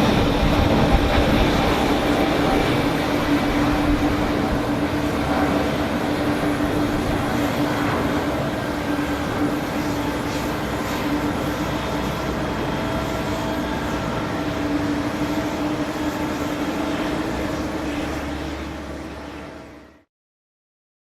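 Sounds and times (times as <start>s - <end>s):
engine drone: 0.0s - 20.1s.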